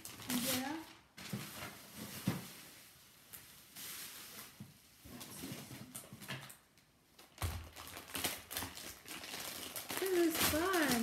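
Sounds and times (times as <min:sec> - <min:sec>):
wrapping paper rustling: 0:00.0 - 0:11.0.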